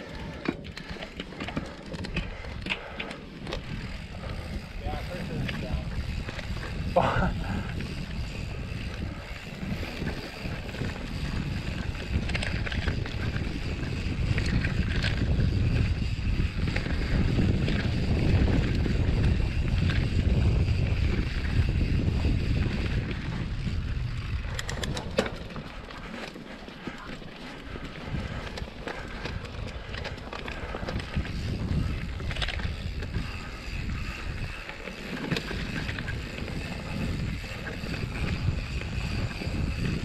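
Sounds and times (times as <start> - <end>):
wind rushing over microphone: 0.0 - 26.1, 27.6 - 40.0
bike tyre and frame rattle: 0.0 - 40.0.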